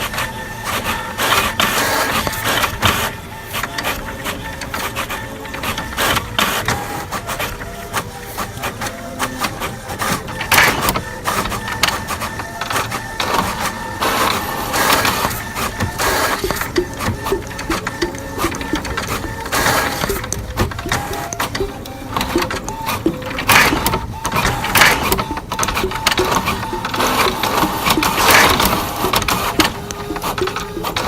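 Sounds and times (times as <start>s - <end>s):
mechanical clicking and clatter: 0.0s - 31.0s.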